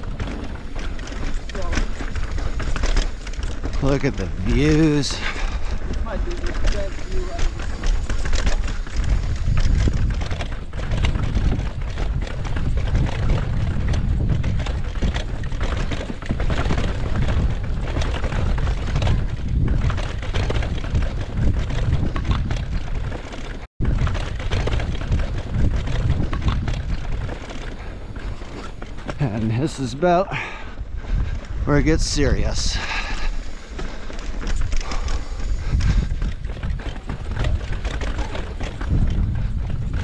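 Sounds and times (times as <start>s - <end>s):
bike rattling over stone steps: 0.0s - 40.0s
wind buffeting microphone: 0.0s - 40.0s.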